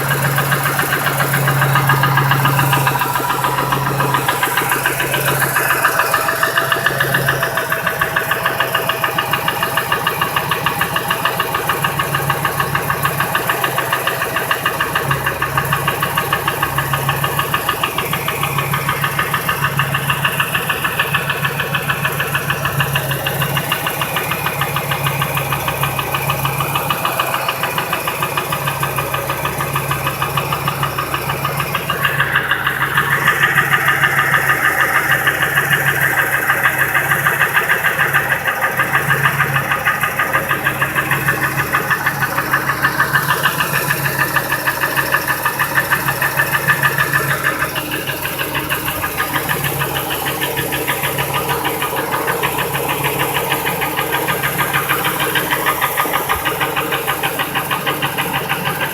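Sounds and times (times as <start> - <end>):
truck engine idling with knock: 0.0 - 58.9.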